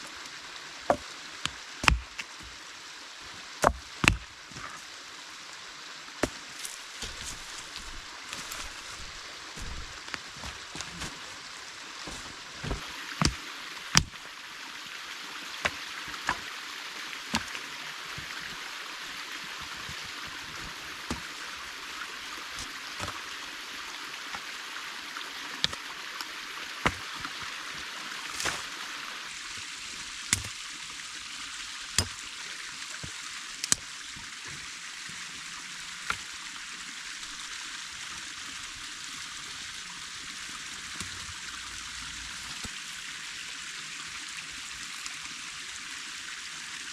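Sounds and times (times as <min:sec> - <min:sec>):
creek water running: 0:00.0 - 0:46.9.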